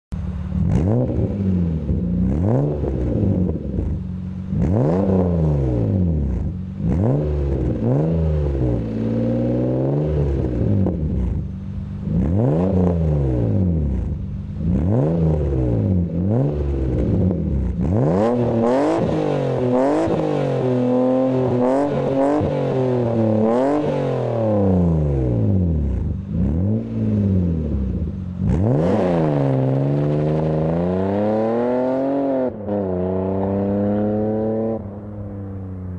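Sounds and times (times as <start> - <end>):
car engine revving: 0.1 - 35.9
car pulling away: 0.2 - 35.9.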